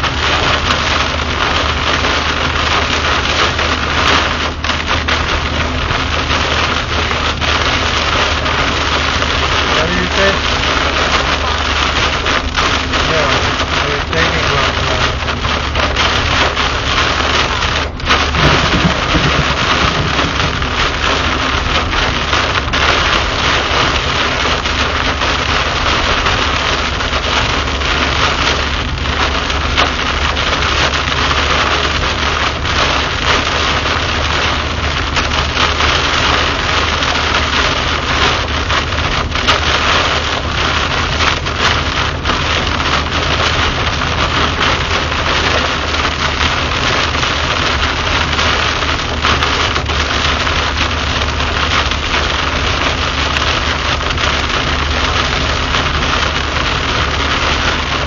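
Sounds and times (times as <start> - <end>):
car and tyres rumbling: 0.0 - 58.0
heavy rain on car windshield: 0.0 - 58.0.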